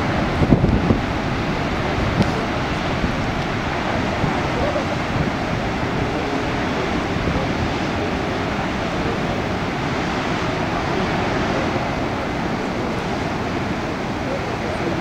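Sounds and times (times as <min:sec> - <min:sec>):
heavy ocean surf roaring: 0:00.0 - 0:15.0.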